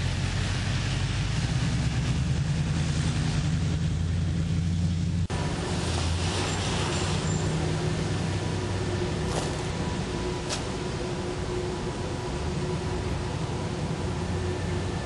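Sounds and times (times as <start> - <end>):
even rush of noise: 0.0 - 15.0
vehicle engine running: 0.0 - 15.0.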